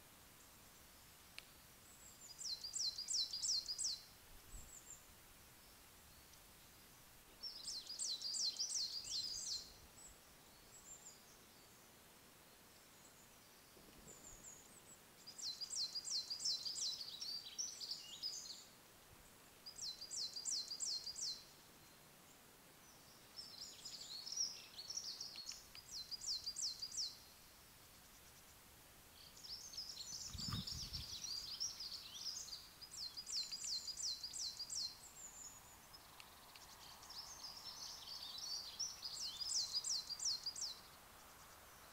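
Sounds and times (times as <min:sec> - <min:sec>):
songbird singing: 0:00.0 - 0:41.9.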